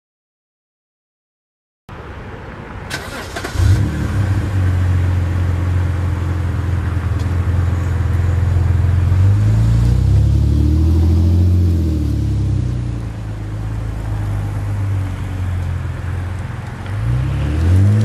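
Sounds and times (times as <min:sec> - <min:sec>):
car driving off: 0:02.7 - 0:18.0
car engine starting and idling: 0:02.8 - 0:18.0.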